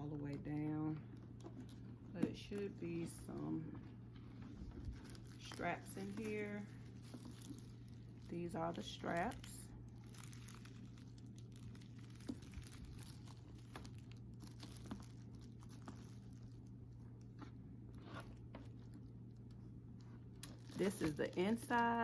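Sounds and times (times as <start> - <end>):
steady low hum: 0.0 - 22.0
handbag rustling and clicking: 0.1 - 22.0.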